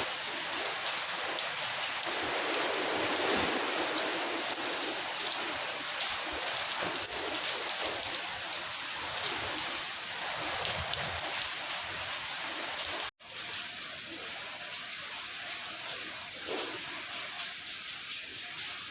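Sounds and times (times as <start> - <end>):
steady rain falling: 0.0 - 18.9.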